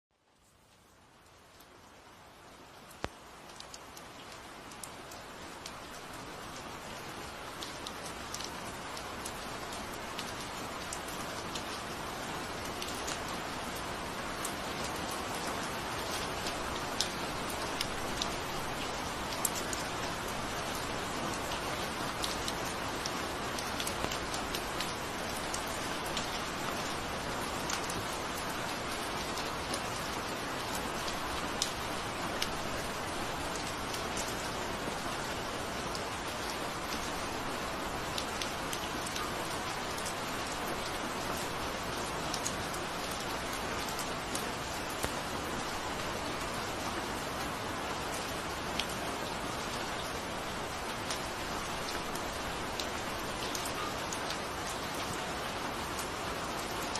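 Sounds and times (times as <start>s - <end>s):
steady rain falling: 0.1s - 56.9s
raindrops ticking on a surface: 0.2s - 56.9s.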